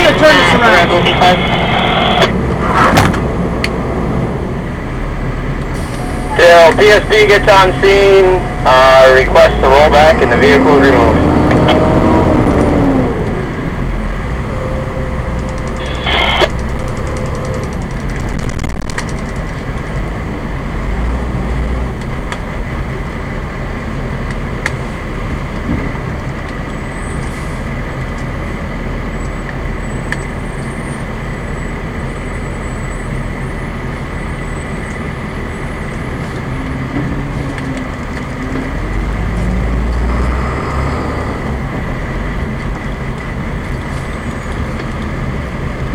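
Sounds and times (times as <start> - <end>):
diesel engine rumbling: 0.0 - 45.9.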